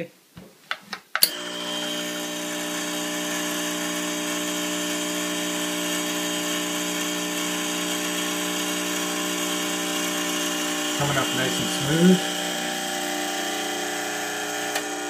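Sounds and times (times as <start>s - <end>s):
espresso machine pump humming: 1.3s - 15.0s.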